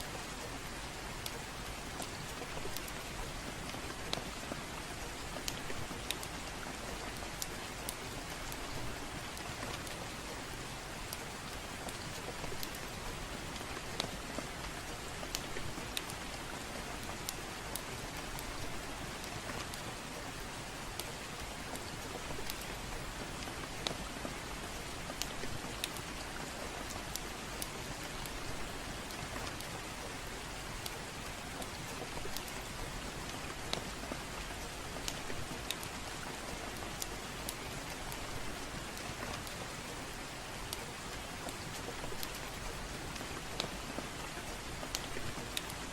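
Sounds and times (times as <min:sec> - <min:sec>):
gentle rain: 0:00.0 - 0:45.9
wood fire crackling: 0:00.4 - 0:45.9.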